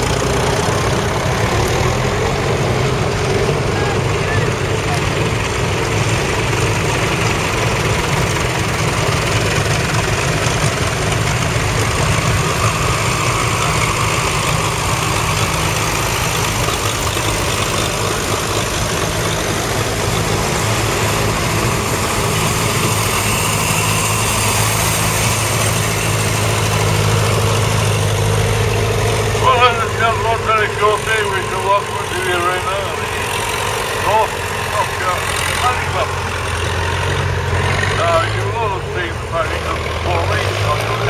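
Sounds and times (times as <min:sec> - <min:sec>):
tractor engines running low: 0:00.0 - 0:41.0.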